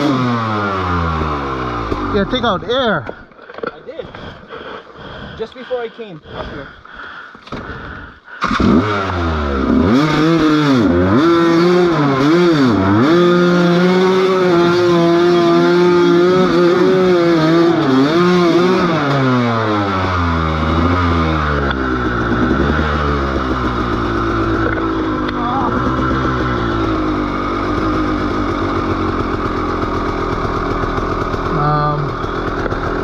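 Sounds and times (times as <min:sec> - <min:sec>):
motorcycle engine revving: 0:00.0 - 0:03.3, 0:07.6 - 0:33.0.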